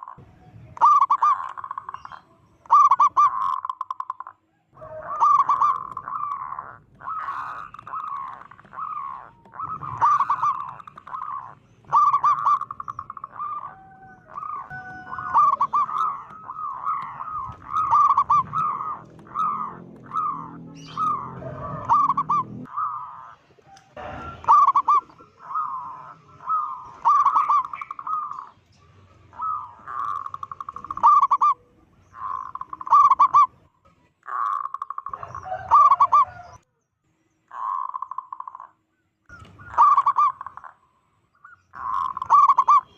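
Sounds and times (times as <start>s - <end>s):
dove cooing: 0.0s - 33.6s, 34.3s - 36.6s, 37.5s - 38.7s, 39.3s - 40.8s, 41.7s - 42.9s.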